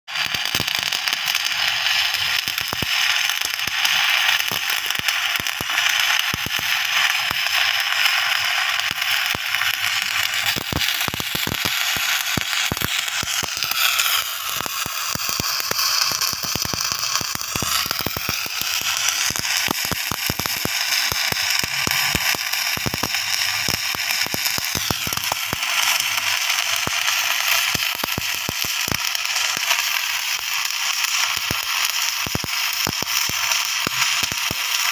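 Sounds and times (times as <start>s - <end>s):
arc welding crackle: 0.1s - 34.9s.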